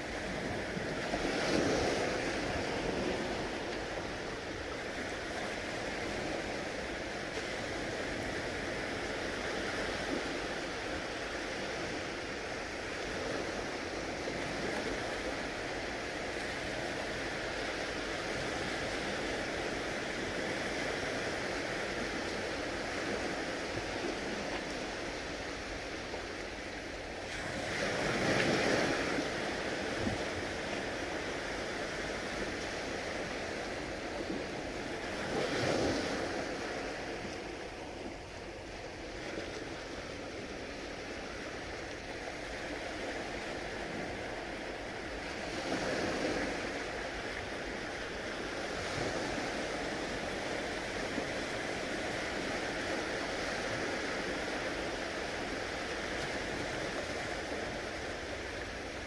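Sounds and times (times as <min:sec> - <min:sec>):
gentle waves washing ashore: 0:00.0 - 0:59.0.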